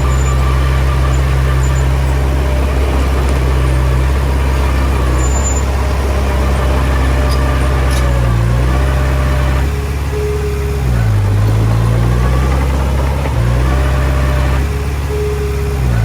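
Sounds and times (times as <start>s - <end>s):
bulldozer diesel engine: 0.0s - 16.0s
short steady whine: 0.0s - 16.0s.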